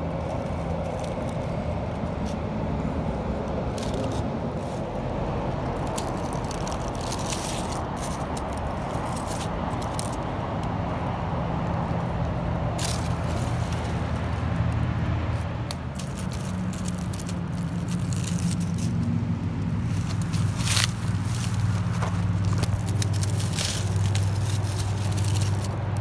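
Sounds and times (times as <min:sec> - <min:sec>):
dry leaves crackling: 0:00.0 - 0:26.0.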